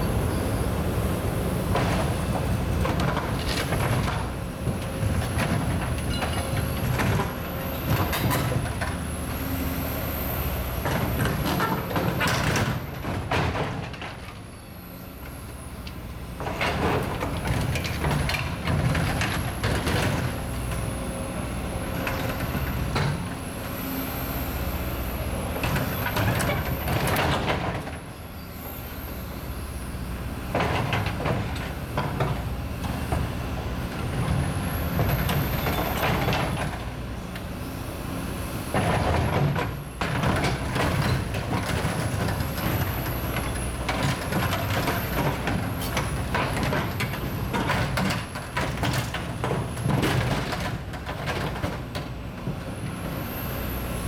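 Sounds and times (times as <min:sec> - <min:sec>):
excavator engine rumble: 0:00.0 - 0:54.0.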